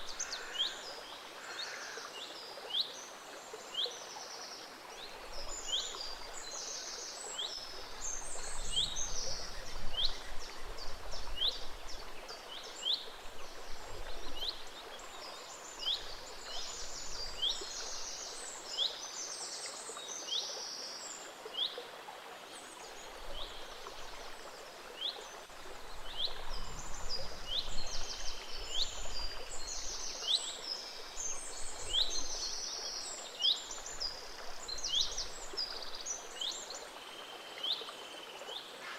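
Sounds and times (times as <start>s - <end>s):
gentle stream flowing: 0.0s - 38.9s.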